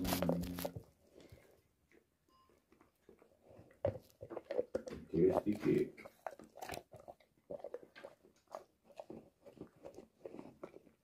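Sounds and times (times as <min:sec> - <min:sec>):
dog chewing and crunching: 0:00.0 - 0:01.3, 0:01.9 - 0:11.0.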